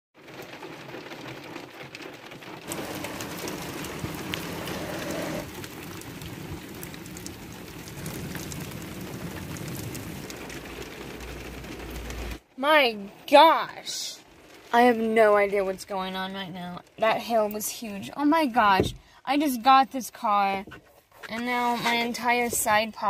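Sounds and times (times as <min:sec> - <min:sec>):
hail pelting a car roof: 0:00.2 - 0:19.2.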